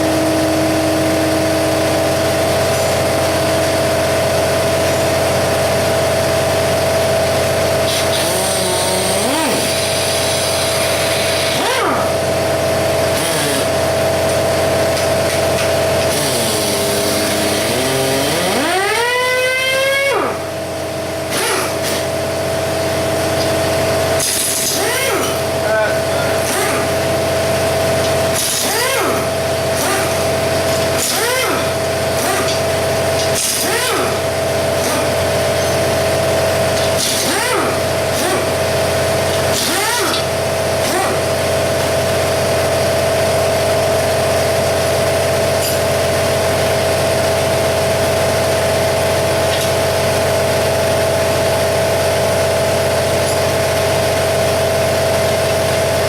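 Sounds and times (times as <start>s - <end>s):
air compressor humming: 0.0s - 56.0s.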